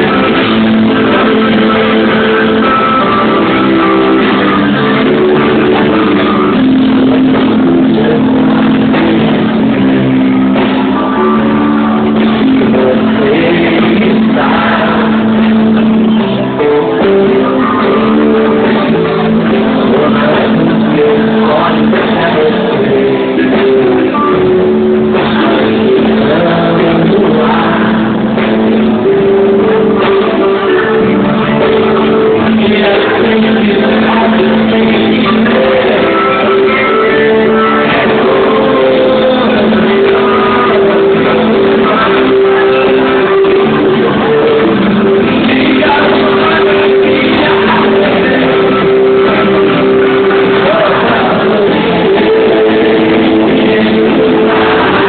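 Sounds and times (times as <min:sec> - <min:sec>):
acoustic guitar strumming: 0:00.0 - 0:55.0
live band music: 0:00.0 - 0:55.0.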